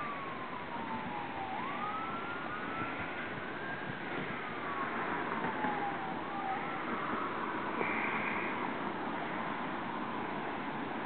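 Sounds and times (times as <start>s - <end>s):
emergency vehicle siren wailing: 0.0s - 11.0s
steady background noise: 0.0s - 11.0s.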